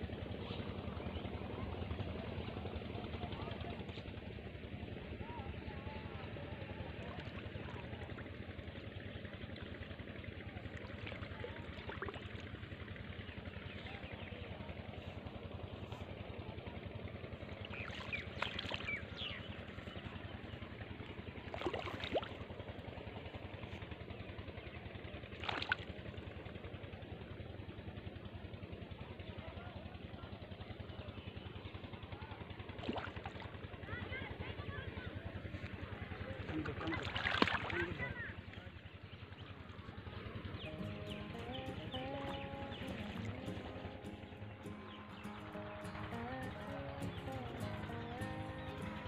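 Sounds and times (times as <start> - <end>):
engine humming: 0.0 - 49.0.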